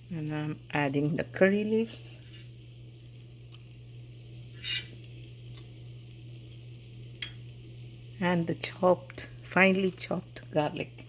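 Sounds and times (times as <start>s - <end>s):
leaves sizzling in hot oil: 0.0s - 11.0s
steady low hum: 0.0s - 11.0s.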